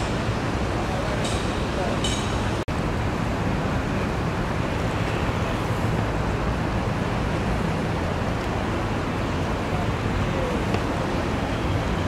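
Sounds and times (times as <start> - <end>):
river water: 0.0 - 12.0.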